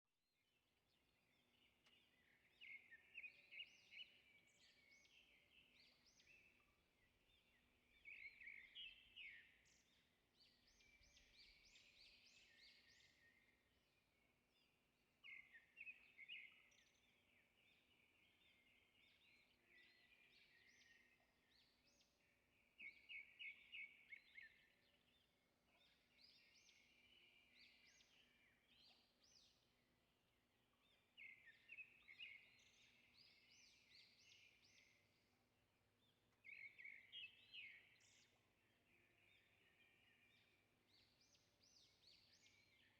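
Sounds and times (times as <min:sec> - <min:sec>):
small birds chirping: 0:00.9 - 0:42.9.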